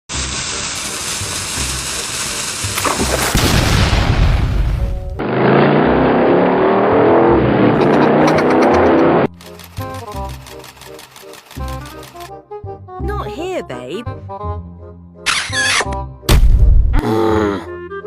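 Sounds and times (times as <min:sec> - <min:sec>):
background music: 0:01.3 - 0:18.0.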